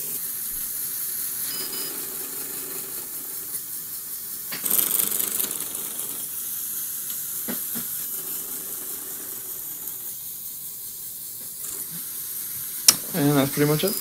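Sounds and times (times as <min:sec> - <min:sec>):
electric motors whirring: 0:00.0 - 0:14.0.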